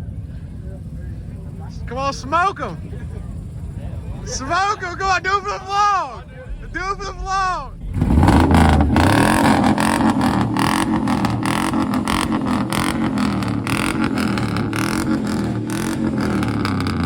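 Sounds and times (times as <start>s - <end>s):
truck engine revving hard: 1.6s - 17.0s.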